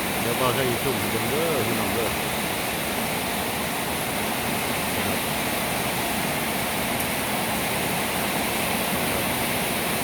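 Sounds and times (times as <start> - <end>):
heavy rain falling: 0.0 - 10.0.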